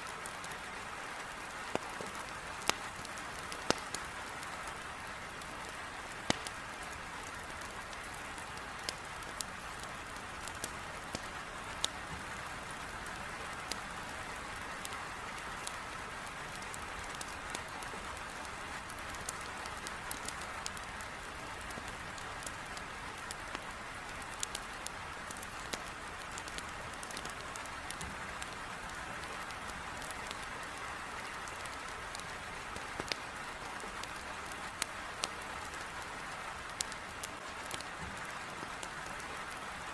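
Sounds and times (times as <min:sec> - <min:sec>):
heavy rain on a window: 0:00.0 - 0:39.9
wood fire crackling: 0:00.1 - 0:39.9.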